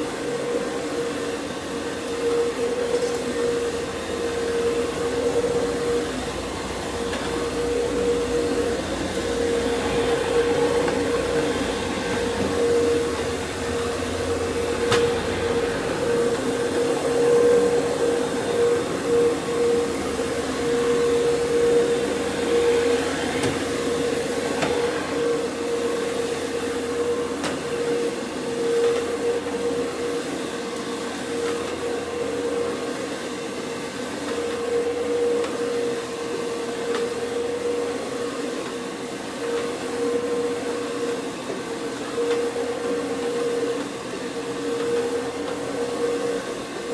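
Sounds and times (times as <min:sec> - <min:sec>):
carpet machine motor humming: 0:00.0 - 0:46.9.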